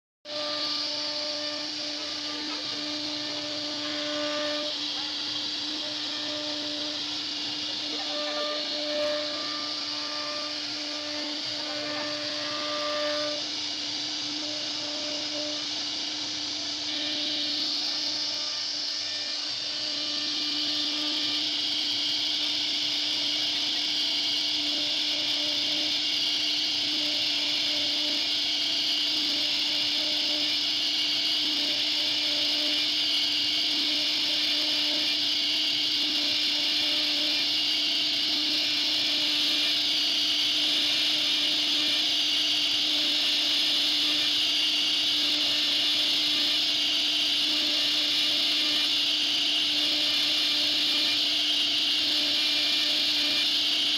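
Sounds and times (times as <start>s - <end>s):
router spindle whine and cutting hiss: 0.2s - 53.9s
low machine hum: 0.3s - 53.9s.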